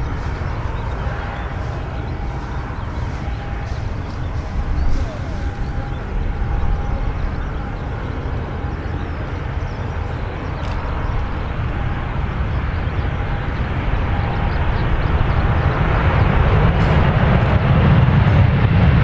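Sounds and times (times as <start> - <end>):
faint thin whine: 0.0 - 16.1
jet engines rumbling: 0.0 - 19.0.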